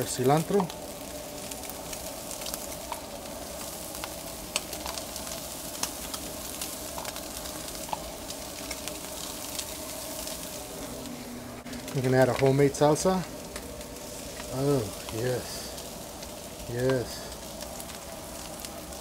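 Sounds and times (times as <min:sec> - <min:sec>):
faint steady hum: 0:00.0 - 0:19.0
food sizzling on a griddle: 0:00.0 - 0:19.0.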